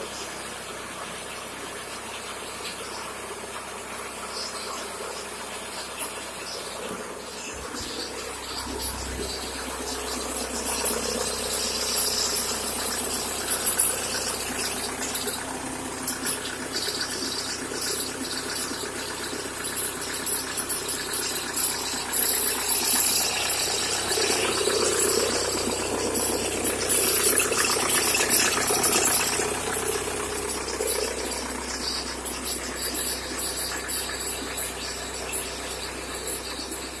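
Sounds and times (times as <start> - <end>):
diesel engine running cold: 0.0 - 37.0.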